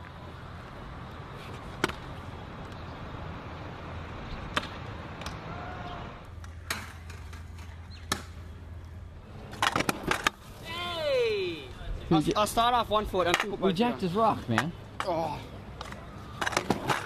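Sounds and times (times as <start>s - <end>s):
scooter wheels rumbling on concrete: 0.0s - 17.0s.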